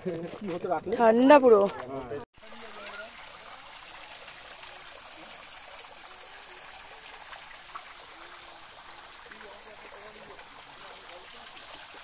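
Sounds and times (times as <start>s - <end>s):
water trickling down rocks: 0.0s - 12.0s.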